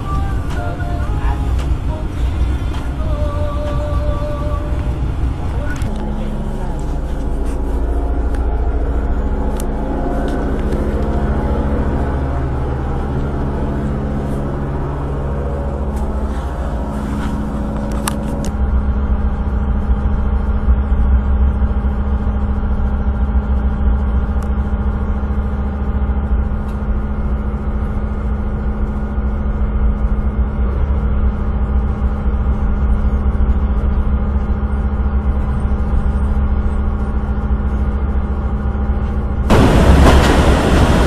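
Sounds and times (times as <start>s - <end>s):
engine hum: 0.0s - 41.0s
train rumble inside carriage: 0.0s - 41.0s.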